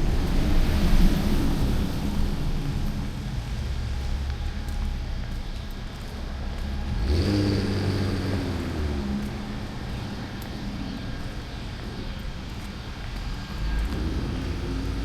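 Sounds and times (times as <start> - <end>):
vehicle approaching: 0.0 - 15.0.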